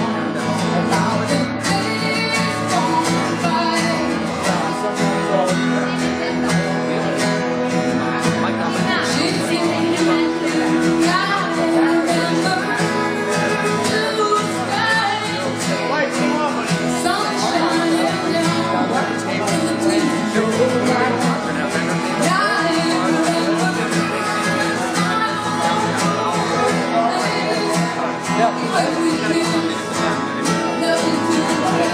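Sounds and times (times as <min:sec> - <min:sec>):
strummed acoustic guitar: 0:00.0 - 0:31.9
woman singing: 0:00.1 - 0:04.9, 0:08.6 - 0:16.0, 0:16.7 - 0:31.9.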